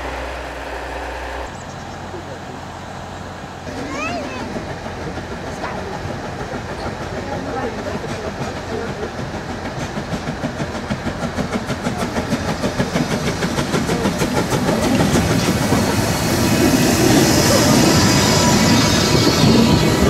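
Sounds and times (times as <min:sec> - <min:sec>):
steam locomotive exhaust beats: 0:00.0 - 0:20.0.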